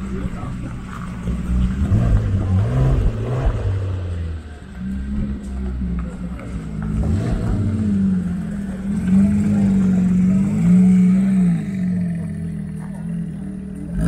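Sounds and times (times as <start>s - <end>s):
car engine pulling away: 0.0s - 14.0s.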